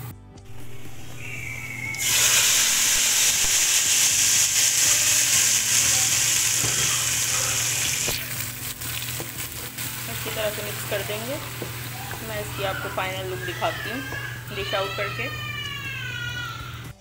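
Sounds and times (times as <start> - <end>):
hot oil sizzling: 0.5 - 15.3.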